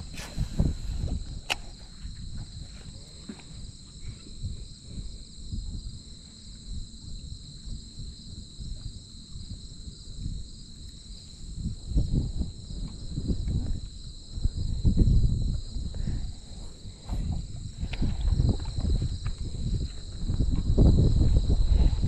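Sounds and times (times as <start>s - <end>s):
insects droning: 0.0s - 22.0s
low uneven rumble: 0.0s - 22.0s.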